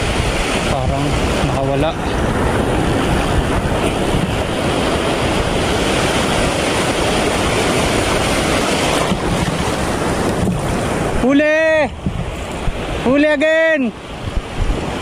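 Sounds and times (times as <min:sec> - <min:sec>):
surf breaking on rocks: 0:00.0 - 0:15.0
wave splashing: 0:00.0 - 0:15.0
wind buffeting microphone: 0:00.0 - 0:15.0.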